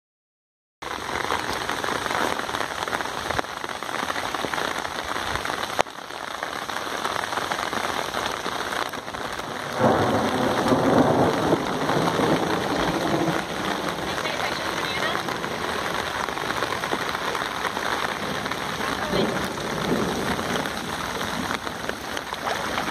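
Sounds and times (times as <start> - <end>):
heavy rain on pavement: 0.8 - 22.9.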